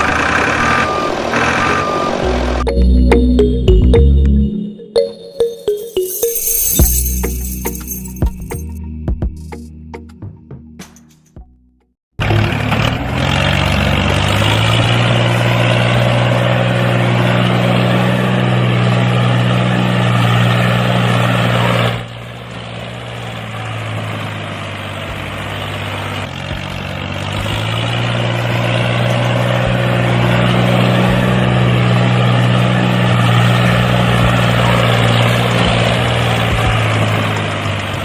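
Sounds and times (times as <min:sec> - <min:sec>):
engine running: 0:00.0 - 0:05.8, 0:12.2 - 0:38.0.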